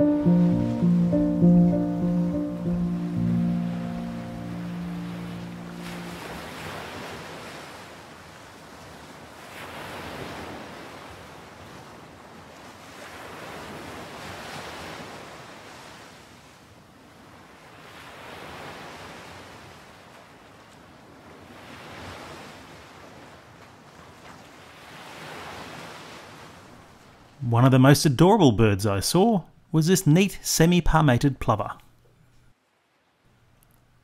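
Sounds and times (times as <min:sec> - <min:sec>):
ocean surf on beach: 0:00.0 - 0:27.4.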